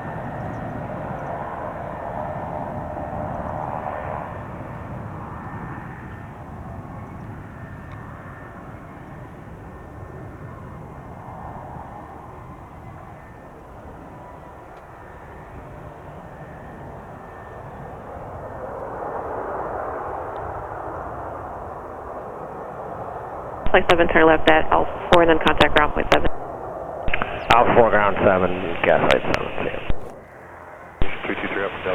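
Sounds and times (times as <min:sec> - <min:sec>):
jet engines landing: 0:00.0 - 0:31.9.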